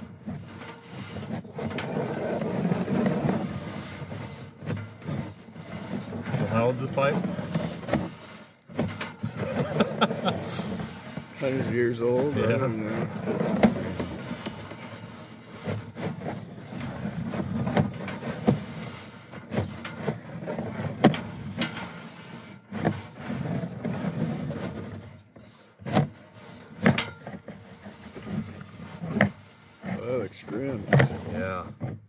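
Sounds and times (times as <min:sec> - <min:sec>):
low rubbing of cable in pipe: 0:00.0 - 0:32.0.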